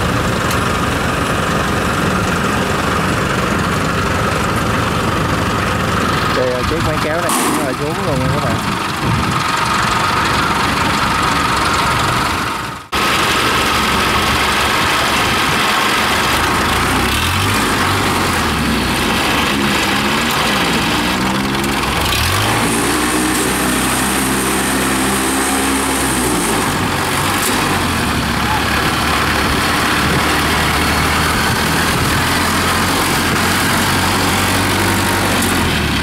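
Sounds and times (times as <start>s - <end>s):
tracked carrier engine revving: 0.0s - 36.0s.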